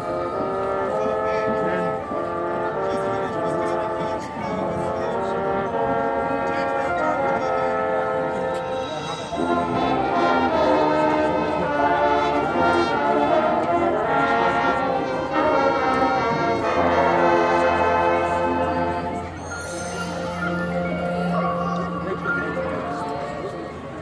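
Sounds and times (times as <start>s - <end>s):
brass band playing chords: 0.0s - 24.0s.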